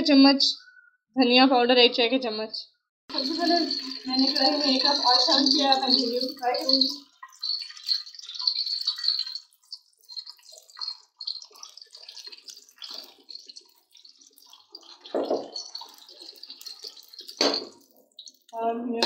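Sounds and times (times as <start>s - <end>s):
okra sizzling in hot oil: 3.1s - 18.6s.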